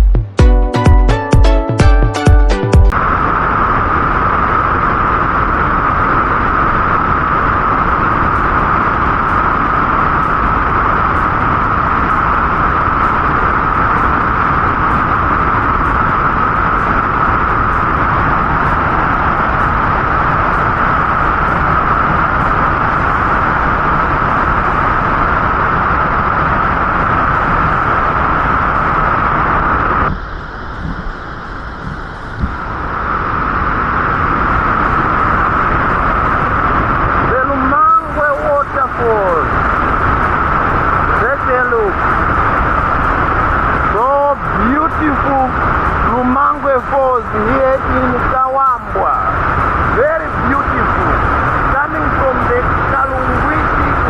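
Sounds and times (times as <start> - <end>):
waterfall roaring: 2.3 - 54.0.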